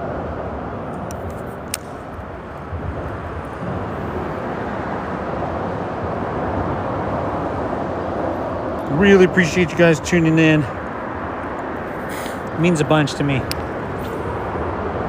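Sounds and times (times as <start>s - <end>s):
traffic rumble overhead: 0.0s - 15.0s.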